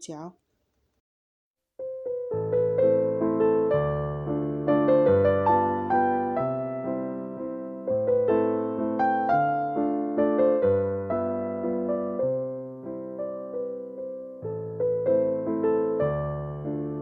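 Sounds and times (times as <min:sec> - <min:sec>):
slow piano music: 0:01.8 - 0:17.0.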